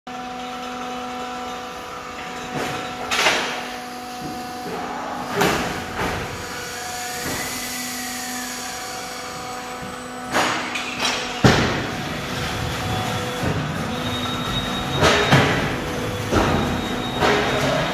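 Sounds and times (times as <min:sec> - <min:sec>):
steady motor hum: 0:00.1 - 0:17.9.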